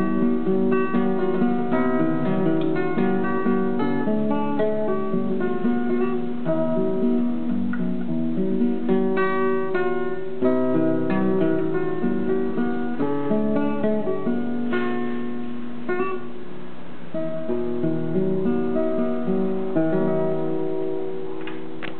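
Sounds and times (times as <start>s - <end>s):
fingerstyle classical guitar: 0.0s - 21.9s.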